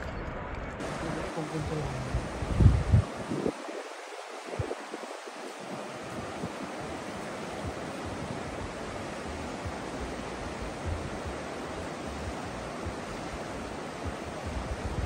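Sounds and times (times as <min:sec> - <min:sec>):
river rushing over rocks: 0:00.8 - 0:15.0.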